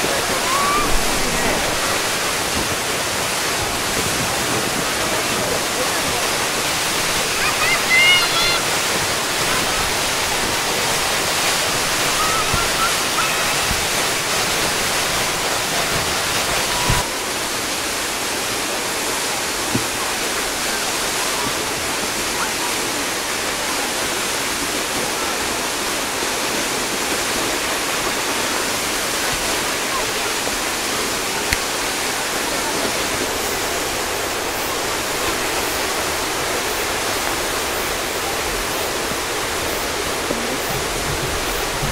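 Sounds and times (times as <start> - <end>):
water cascading onto rocks: 0.0 - 41.9.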